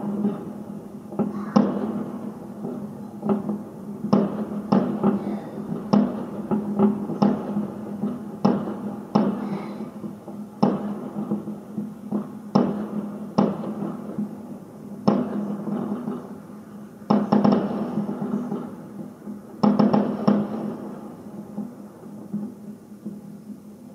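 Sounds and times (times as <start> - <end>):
firework shells bursting: 0.0 - 23.6.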